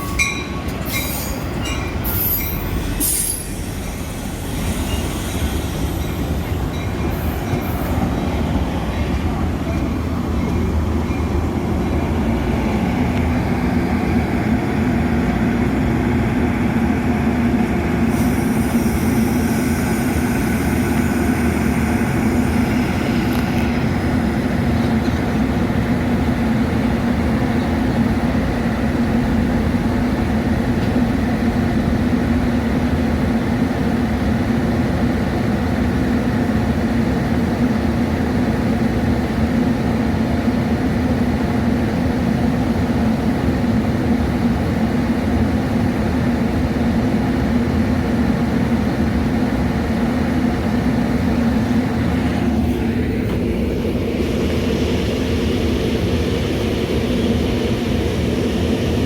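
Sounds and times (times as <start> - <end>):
train rail and wheel noise: 0.0 - 59.0.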